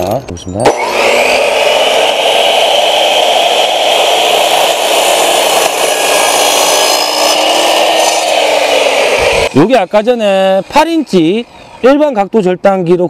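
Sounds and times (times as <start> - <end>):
miter saw cutting wood: 0.6 - 11.8.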